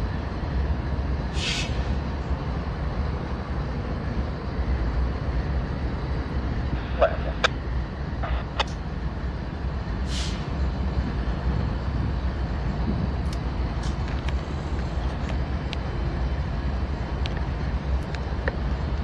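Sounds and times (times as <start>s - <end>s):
diesel locomotives idling: 0.0s - 19.0s.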